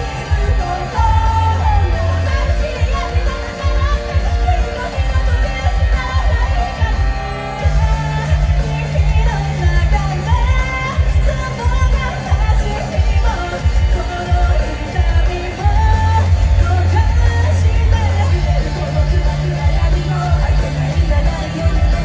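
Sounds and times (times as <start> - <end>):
band playing pop-rock live: 0.0 - 22.0
lead singer singing: 0.0 - 22.0.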